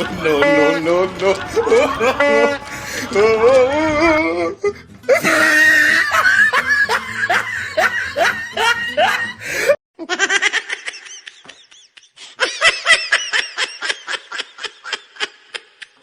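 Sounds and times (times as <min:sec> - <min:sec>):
person laughing: 0:00.0 - 0:16.0.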